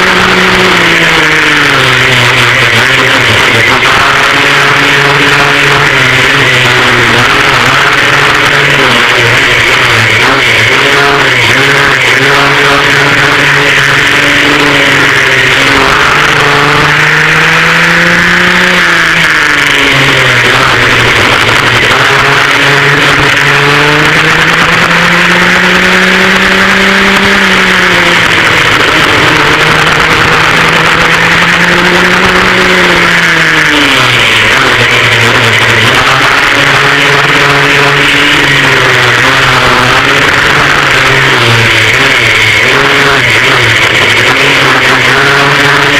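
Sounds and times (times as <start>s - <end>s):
two-stroke kart engines revving: 0.0s - 45.9s.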